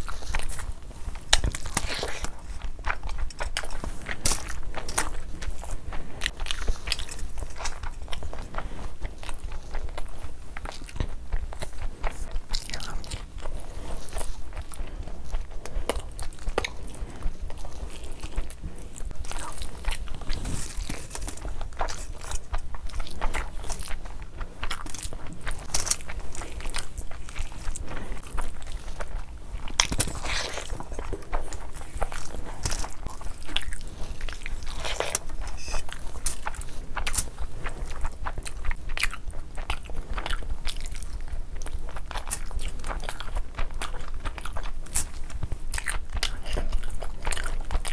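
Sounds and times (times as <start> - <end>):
wet chewing and smacking: 0.0 - 47.9.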